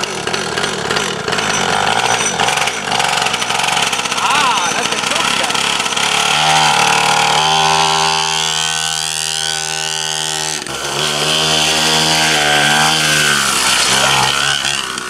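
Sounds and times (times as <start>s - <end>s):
small two-stroke engine running: 0.0s - 15.0s.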